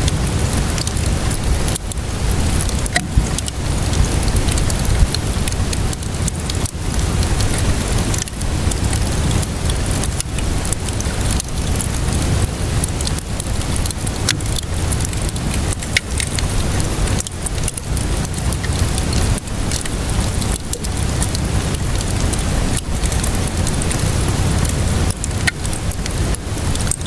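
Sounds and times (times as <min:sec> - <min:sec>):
rain hissing: 0:00.0 - 0:27.0
wood fire crackling: 0:00.0 - 0:27.0.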